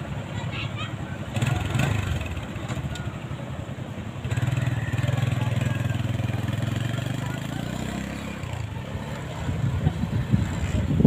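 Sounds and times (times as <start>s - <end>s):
small motorcycle engine running: 0.8s - 11.0s.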